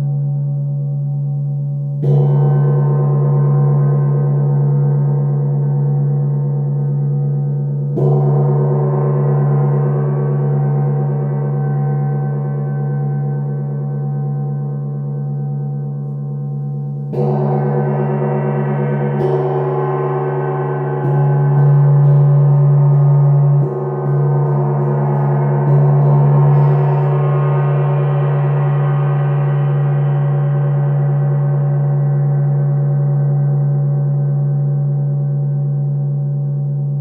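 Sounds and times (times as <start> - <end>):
steady low tone: 0.0 - 37.0.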